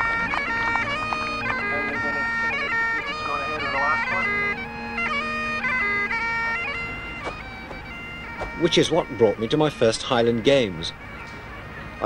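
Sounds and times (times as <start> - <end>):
bagpipe playing a tune: 0.0 - 12.0.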